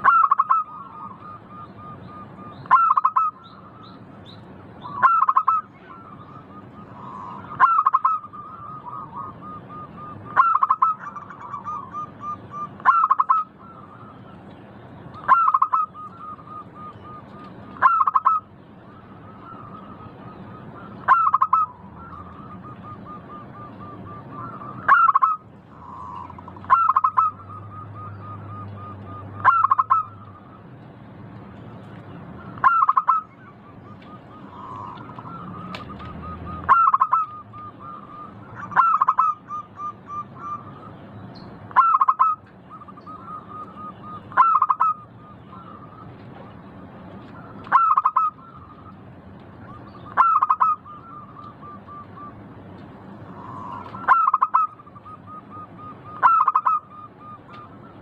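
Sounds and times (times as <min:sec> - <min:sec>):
dove cooing song: 0:00.0 - 0:04.0, 0:04.8 - 0:30.7, 0:32.4 - 0:52.5, 0:53.2 - 0:58.0.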